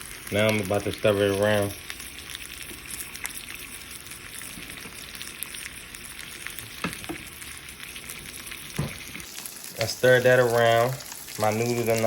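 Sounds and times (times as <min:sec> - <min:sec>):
sauce sizzling in pan: 0:00.0 - 0:12.0.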